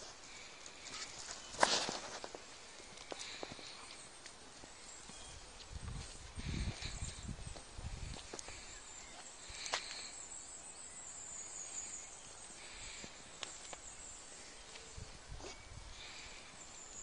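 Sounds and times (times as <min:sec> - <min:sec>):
faint high twittering: 0:00.0 - 0:17.0
steady outdoor hiss: 0:00.0 - 0:17.0.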